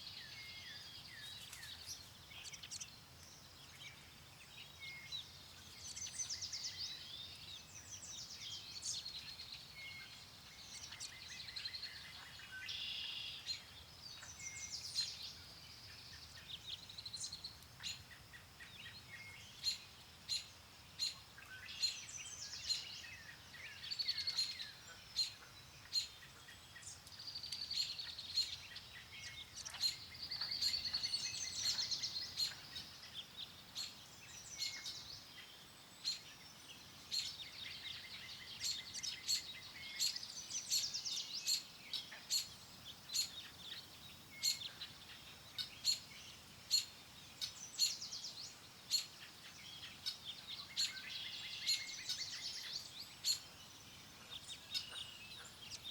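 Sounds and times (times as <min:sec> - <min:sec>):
faint wind: 0:00.0 - 0:55.9
songbirds singing and chirping: 0:00.0 - 0:55.9.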